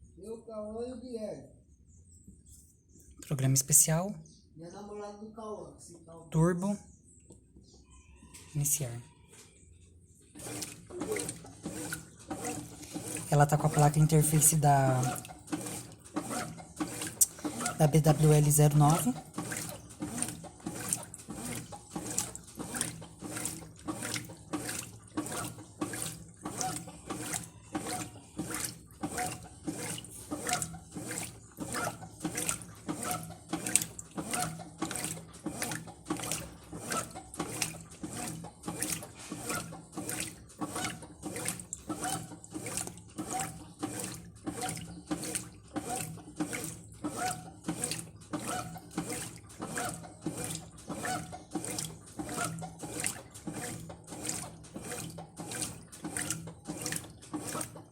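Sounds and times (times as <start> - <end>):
washing machine agitating: 3.2 - 4.1, 8.1 - 57.9.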